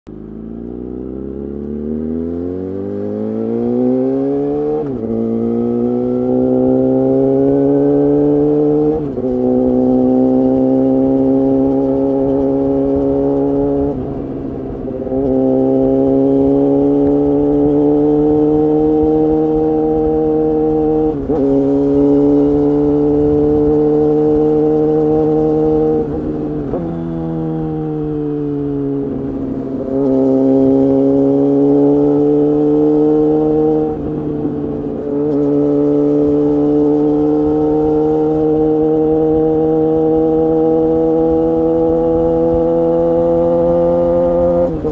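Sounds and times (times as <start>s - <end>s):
motorcycle engine running loud: 0.1s - 44.9s.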